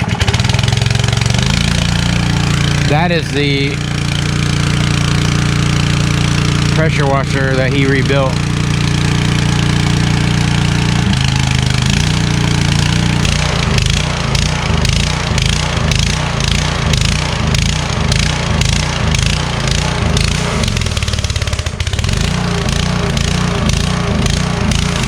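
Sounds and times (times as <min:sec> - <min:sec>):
small petrol engine surging: 0:00.0 - 0:25.0.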